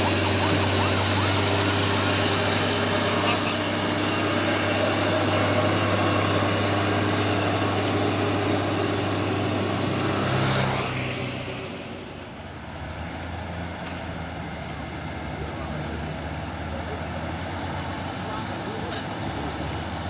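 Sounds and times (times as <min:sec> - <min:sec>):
heavy diesel truck engine: 0:00.0 - 0:20.0.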